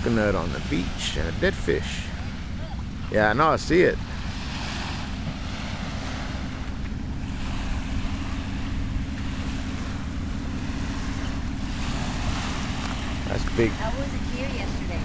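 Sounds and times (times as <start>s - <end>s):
low steady rumble: 0.0s - 15.0s
surf washing onto beach: 0.0s - 15.0s.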